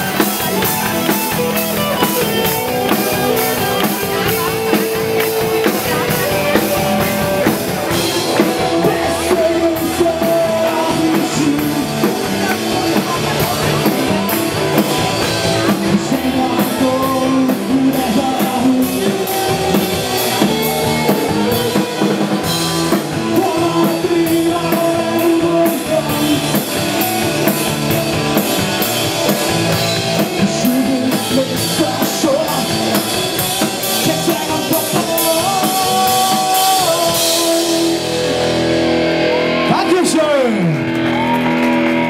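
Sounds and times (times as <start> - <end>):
drum kit beat: 0.0 - 42.0
electric guitar: 0.0 - 42.0
live rock band: 0.0 - 42.0.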